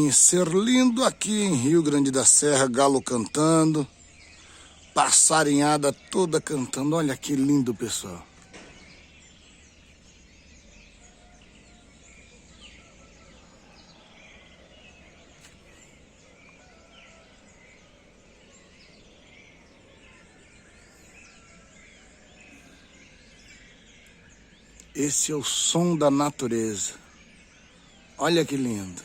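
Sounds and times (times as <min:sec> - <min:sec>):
many small birds chirping: 0:00.0 - 0:29.0.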